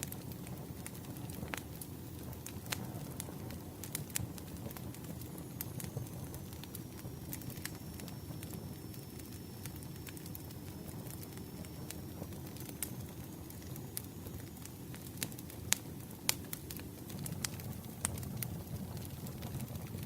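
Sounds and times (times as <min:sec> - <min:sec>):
burning wood crackling and popping: 0:00.0 - 0:20.0
low rumble of flames: 0:00.0 - 0:20.0.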